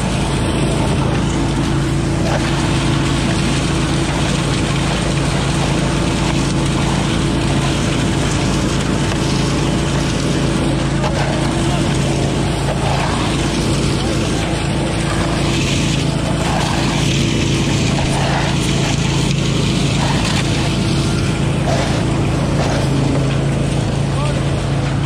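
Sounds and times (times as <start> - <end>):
leaf vacuum engine running: 0.0 - 25.0.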